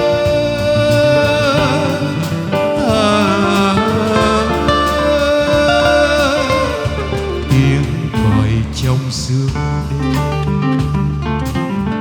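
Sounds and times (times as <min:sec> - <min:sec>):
held chords: 0:00.0 - 0:12.0
wavering lead melody: 0:00.0 - 0:12.0.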